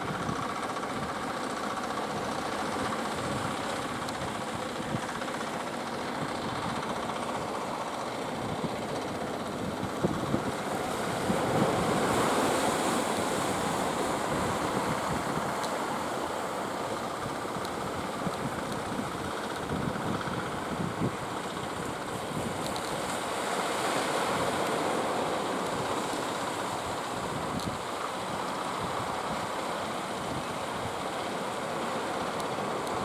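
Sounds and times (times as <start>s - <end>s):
sea waves breaking: 5.2s - 33.0s.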